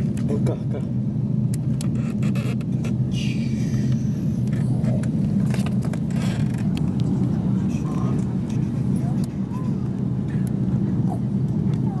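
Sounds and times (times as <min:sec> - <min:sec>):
aircraft cabin low rumble: 0:00.0 - 0:12.0.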